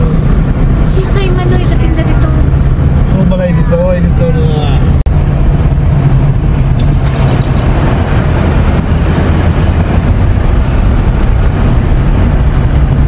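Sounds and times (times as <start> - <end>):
engine hum and road rumble: 0.0 - 13.0.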